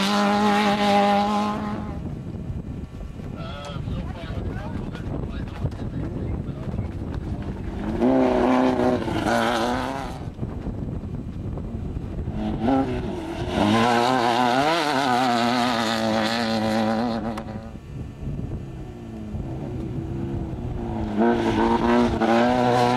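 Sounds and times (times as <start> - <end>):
off-road vehicle engines passing: 0.0 - 22.9.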